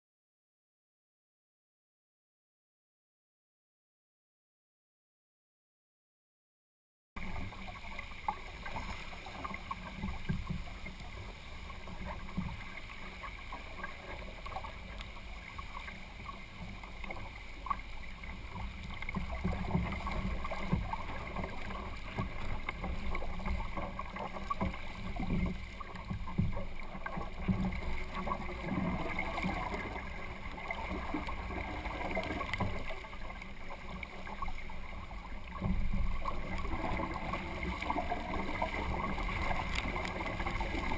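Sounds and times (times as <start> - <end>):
water splashing against kayak hull: 7.2 - 40.9.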